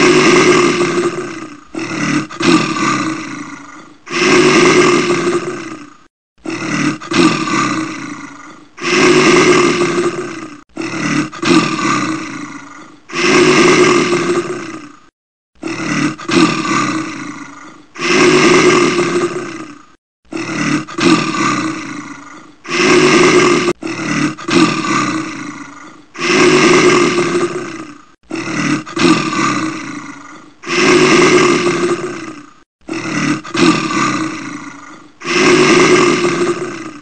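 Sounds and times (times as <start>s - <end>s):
deep animal roars: 0.0s - 37.0s.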